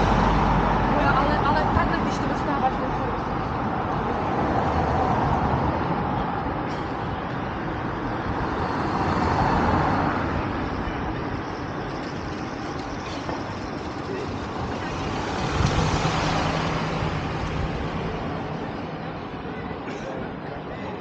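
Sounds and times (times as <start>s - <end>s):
passing cars and buses: 0.0s - 21.0s.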